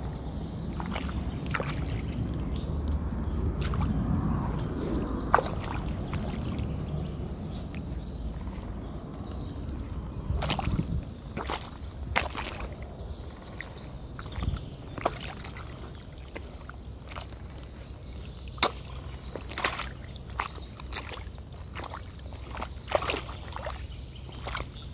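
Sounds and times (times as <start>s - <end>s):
wet footsteps: 0.0s - 9.5s, 10.2s - 24.9s
feet squelching in mud: 0.0s - 24.9s.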